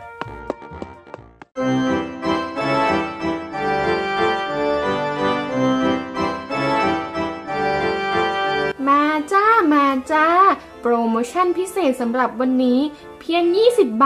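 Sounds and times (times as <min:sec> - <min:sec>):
background music melody: 0:00.0 - 0:14.0.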